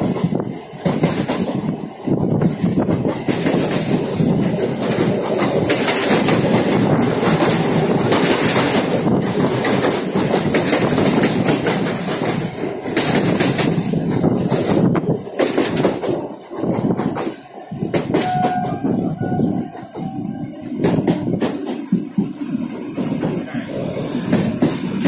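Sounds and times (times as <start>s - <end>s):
train wheels rumbling on rails: 0.0s - 25.0s
wheels clacking over rail joints: 0.0s - 25.0s.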